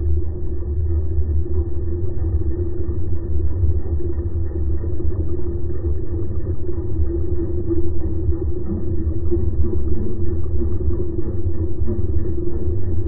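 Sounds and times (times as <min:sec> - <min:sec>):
underwater outboard motor rumble: 0:00.0 - 0:13.0.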